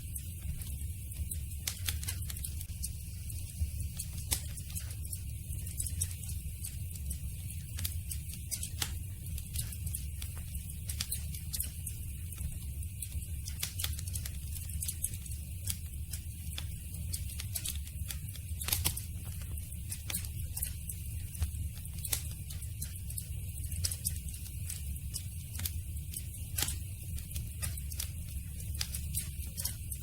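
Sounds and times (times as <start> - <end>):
low rumble of flames: 0.0 - 30.0
wood crackling and popping: 0.0 - 30.0.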